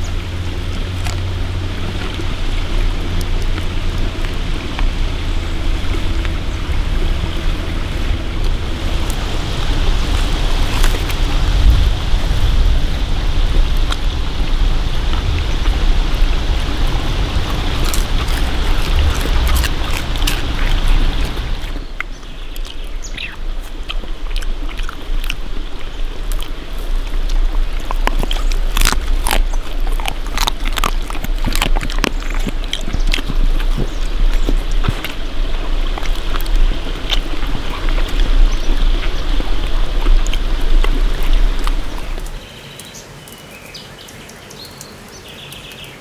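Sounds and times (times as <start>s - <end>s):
dog chewing and smacking: 0.0s - 42.4s
stream running: 0.0s - 46.0s.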